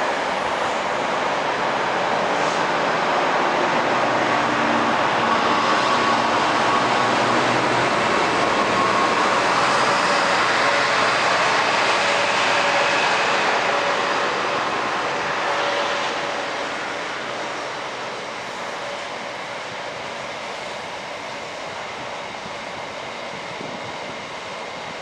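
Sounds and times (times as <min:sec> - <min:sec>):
train passing at speed: 0:00.0 - 0:25.0.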